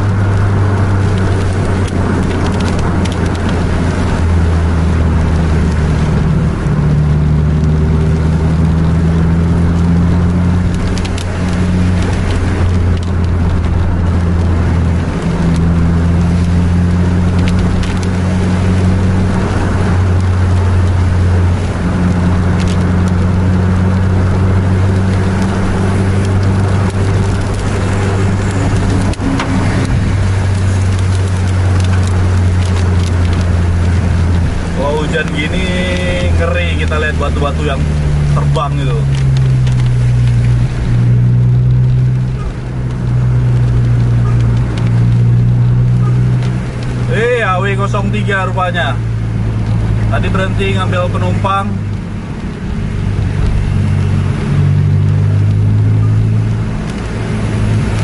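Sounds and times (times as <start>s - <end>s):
tyre noise on wet road: 0.0s - 58.0s
vehicle engine drone: 0.0s - 58.0s.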